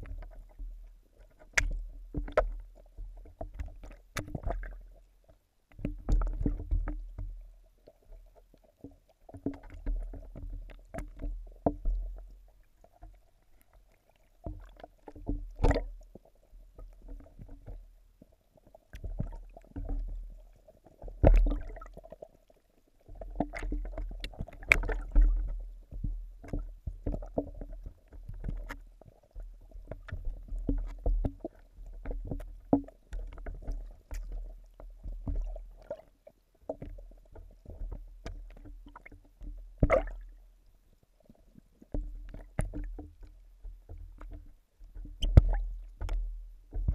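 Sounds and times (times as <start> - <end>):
underwater water rumbles: 0.0 - 5.2, 5.8 - 13.8, 14.4 - 18.0, 18.6 - 22.4, 23.0 - 40.6, 41.4 - 46.9.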